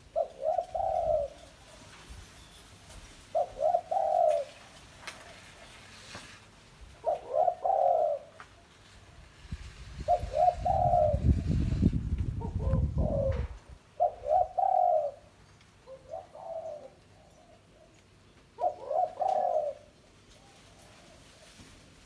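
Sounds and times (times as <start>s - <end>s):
dove cooing: 0.0s - 21.7s.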